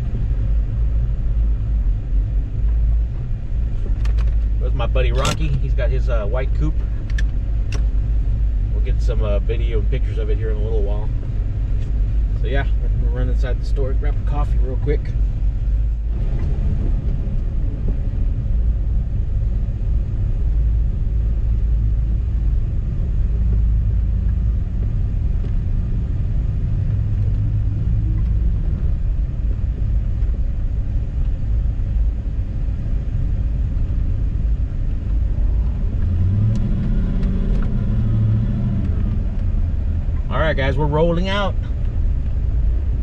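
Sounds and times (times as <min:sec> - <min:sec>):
car engine rumbling: 0:00.0 - 0:43.0.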